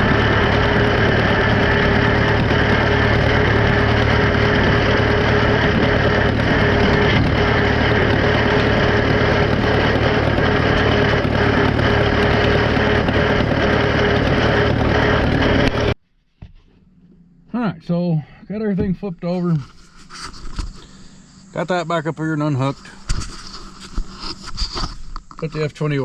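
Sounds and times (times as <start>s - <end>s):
steady whine: 0.0s - 26.0s
tractor engine running: 0.0s - 26.0s.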